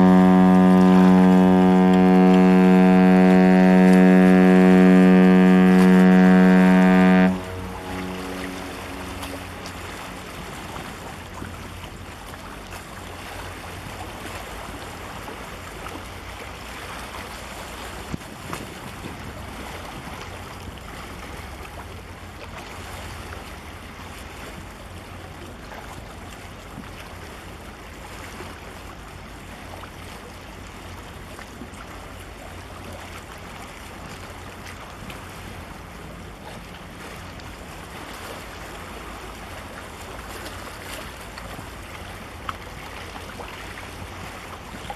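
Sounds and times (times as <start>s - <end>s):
choppy sea water: 0.0s - 44.9s.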